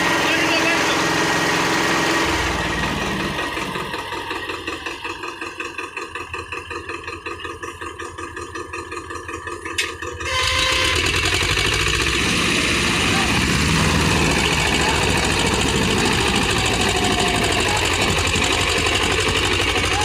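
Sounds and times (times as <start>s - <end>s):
diesel tractor engine pulsing: 0.0s - 20.0s.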